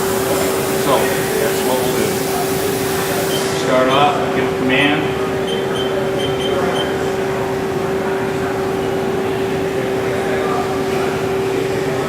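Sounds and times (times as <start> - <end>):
lathe mechanical hum: 0.0 - 12.0.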